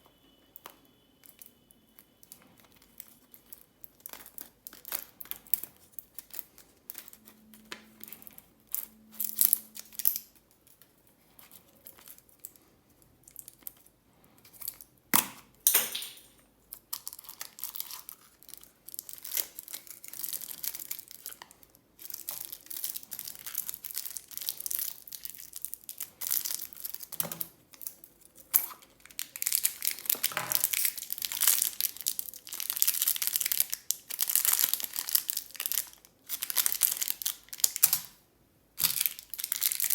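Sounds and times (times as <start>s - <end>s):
plastic wrappers crinkling and tearing: 1.2s - 15.0s, 15.9s - 38.2s, 38.8s - 39.9s.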